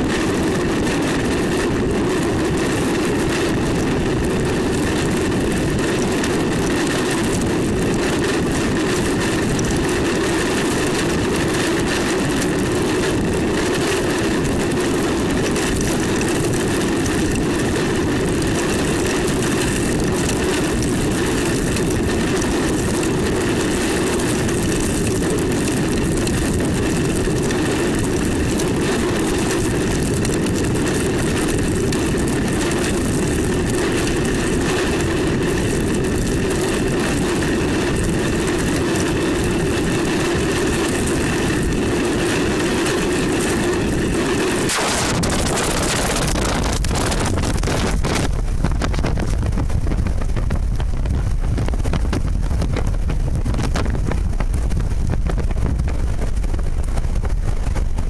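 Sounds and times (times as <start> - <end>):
roaring tornado winds: 0.0 - 58.0.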